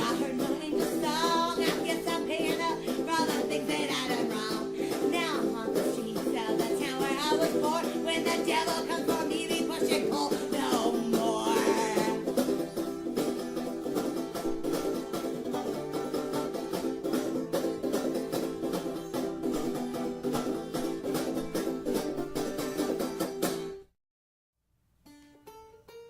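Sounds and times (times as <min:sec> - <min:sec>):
picked string instrument music: 0:00.0 - 0:23.9, 0:24.9 - 0:26.0.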